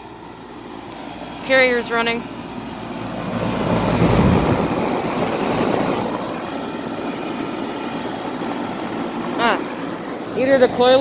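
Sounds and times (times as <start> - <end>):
air conditioner fan whooshing: 0.0 - 11.0.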